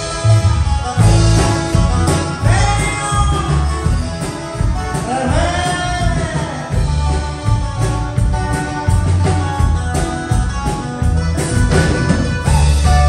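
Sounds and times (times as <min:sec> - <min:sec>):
drum kit beat: 0:00.0 - 0:13.0
low bass notes: 0:00.0 - 0:13.0
strummed guitars: 0:00.0 - 0:13.0.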